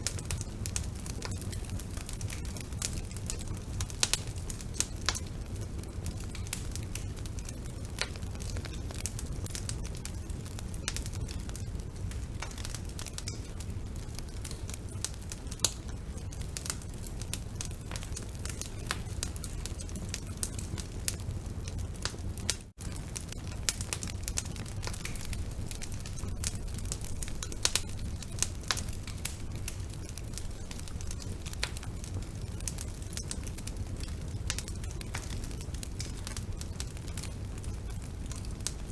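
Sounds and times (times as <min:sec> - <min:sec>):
fire flames rumbling: 0:00.0 - 0:38.9
logs crackling and popping: 0:00.0 - 0:38.9.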